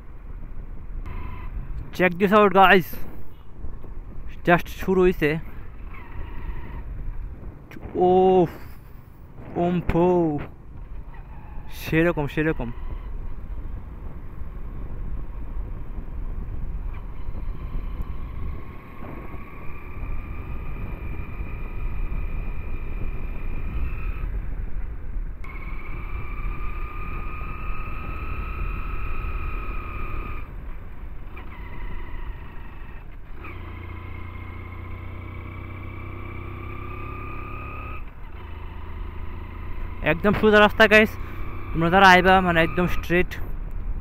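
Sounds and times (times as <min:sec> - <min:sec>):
motorcycle engine rumble: 0:00.0 - 0:44.0
wind and road noise: 0:00.0 - 0:44.0.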